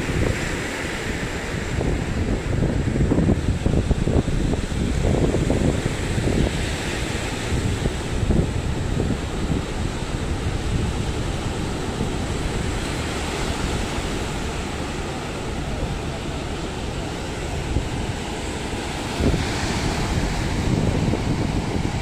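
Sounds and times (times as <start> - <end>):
small waves breaking on sand: 0.0 - 22.0
wind buffeting microphone: 0.0 - 22.0.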